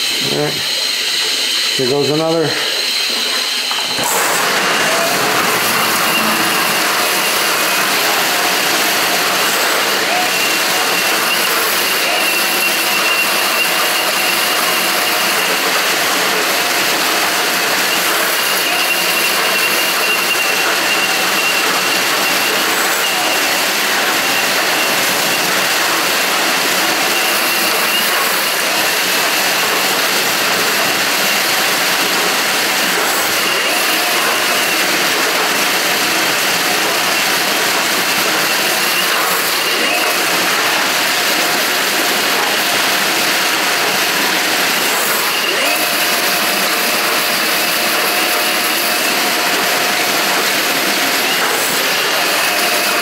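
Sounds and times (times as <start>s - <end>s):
steady high whine: 0.0s - 42.9s
drain snake motor running: 0.0s - 53.0s.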